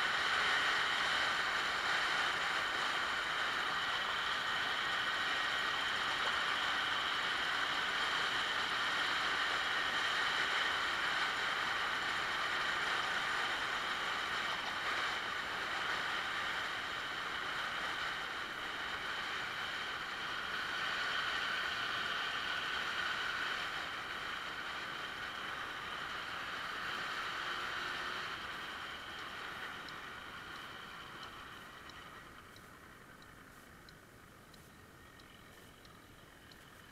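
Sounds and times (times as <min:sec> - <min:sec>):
scooter engine running: 0:00.0 - 0:33.9
wind and road noise: 0:00.0 - 0:36.9.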